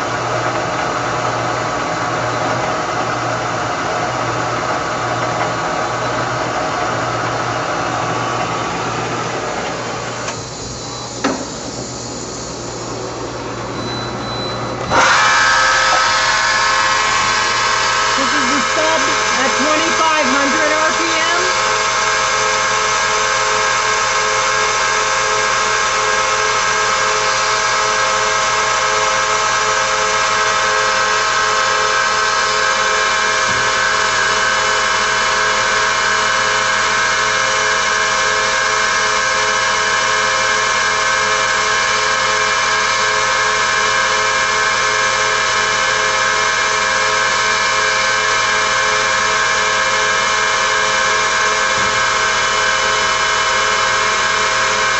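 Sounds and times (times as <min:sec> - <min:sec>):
lathe whine and hum: 0:00.0 - 0:54.9.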